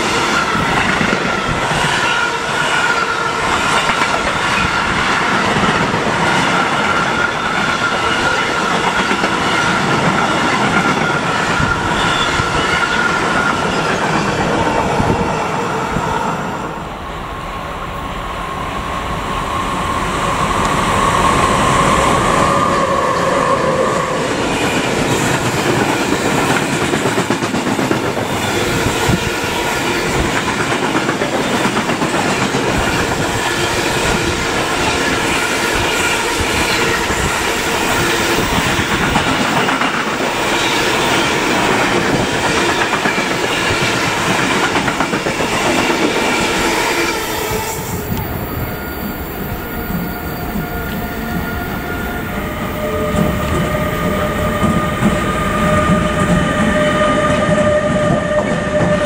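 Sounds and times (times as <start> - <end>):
train wheels clattering on rails: 0.0 - 15.5, 24.1 - 59.0.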